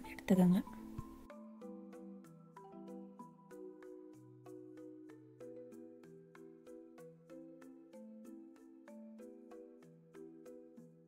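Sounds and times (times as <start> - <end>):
soft melody of struck notes: 0.0 - 11.0.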